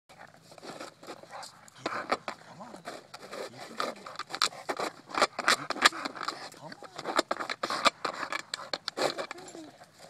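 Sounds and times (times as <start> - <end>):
frisbee scraping on concrete: 0.2 - 9.4
dog breathing noisily: 0.2 - 10.0.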